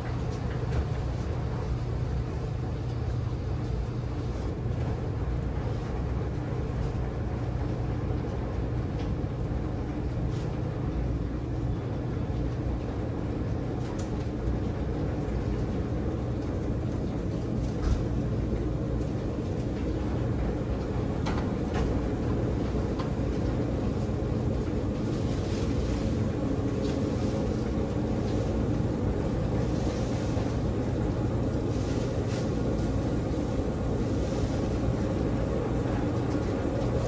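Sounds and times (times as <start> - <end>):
washing machine motor hum and drum: 0.0 - 37.0.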